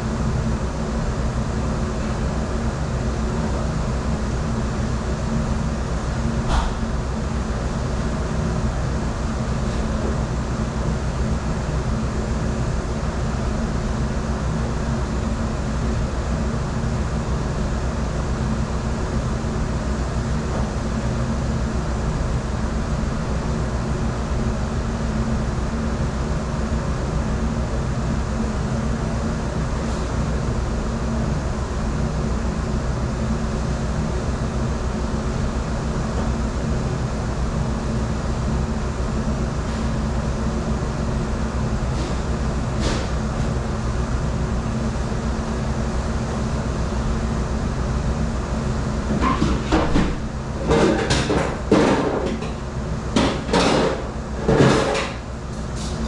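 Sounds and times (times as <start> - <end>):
dish machine running with low hum: 0.0 - 56.0.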